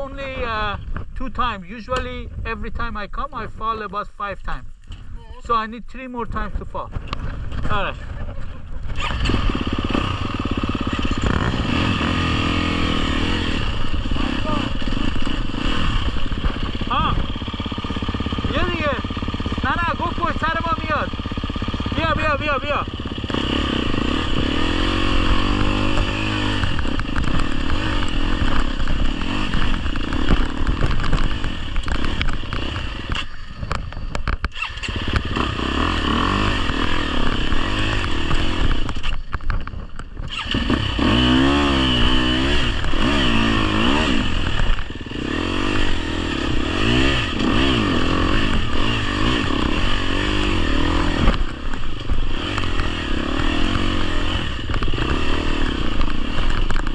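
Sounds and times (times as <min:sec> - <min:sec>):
motorcycle engine revving: 0:00.0 - 0:04.6, 0:05.4 - 0:56.9.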